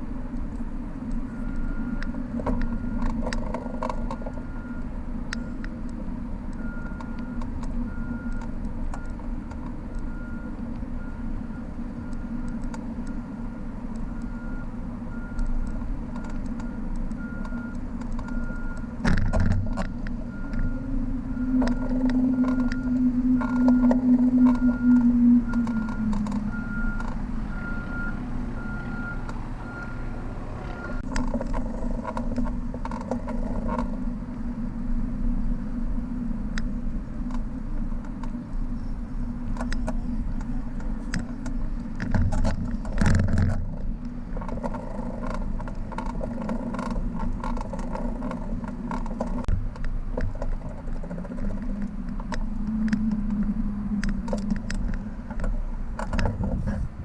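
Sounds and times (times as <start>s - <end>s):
tyres humming on road: 0.0s - 57.0s.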